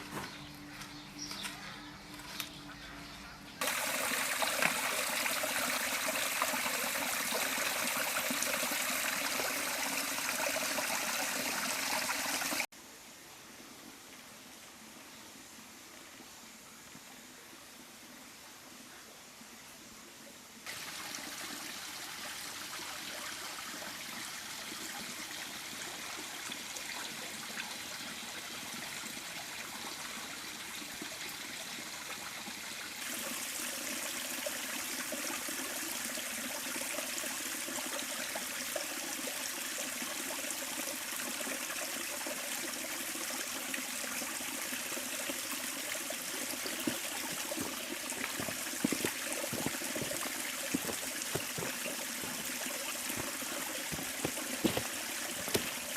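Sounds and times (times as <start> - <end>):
river water running: 0.0 - 12.7, 20.7 - 55.9.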